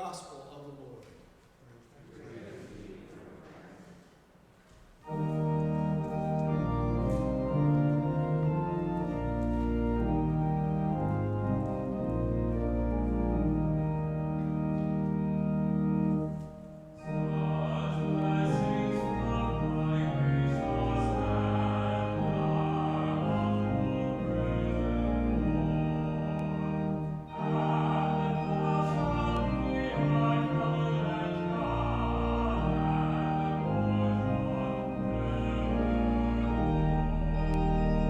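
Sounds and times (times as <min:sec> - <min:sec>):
church organ chords: 0:05.0 - 0:38.0.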